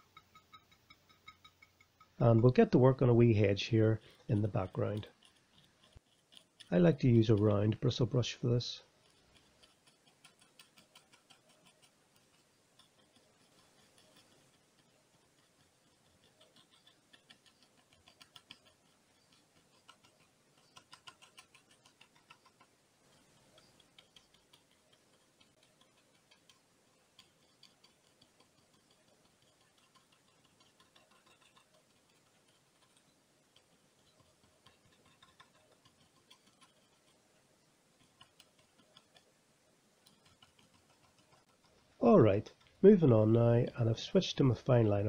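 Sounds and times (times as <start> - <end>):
bristle brush dabbing paint: 0.0 - 45.0.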